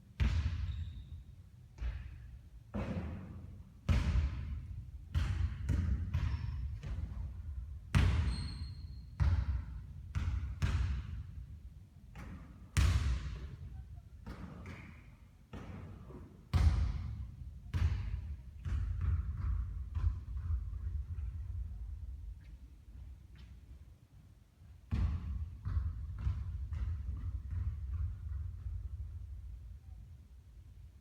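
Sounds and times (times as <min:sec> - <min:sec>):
basketball bouncing on court: 0:00.2 - 0:01.1, 0:01.8 - 0:11.5, 0:12.1 - 0:22.4, 0:24.9 - 0:29.5.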